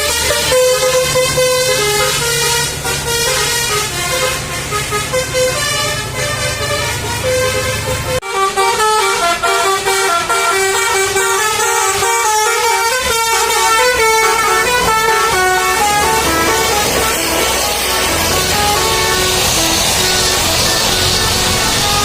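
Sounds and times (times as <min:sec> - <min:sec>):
musical air horn tune: 0:00.0 - 0:22.0.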